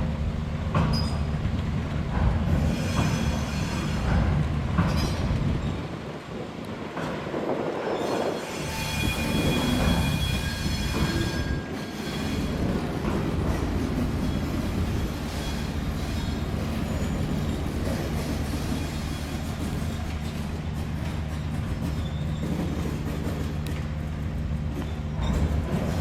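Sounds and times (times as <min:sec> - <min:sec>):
low locomotive hum: 0:00.0 - 0:26.0
train wheels squealing: 0:00.9 - 0:01.4, 0:02.5 - 0:06.0, 0:07.4 - 0:26.0.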